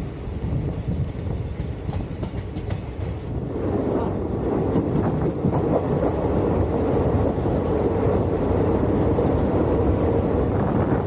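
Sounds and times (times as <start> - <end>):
train wheels rumbling on rails: 0.0 - 11.0
wind noise: 0.0 - 11.0.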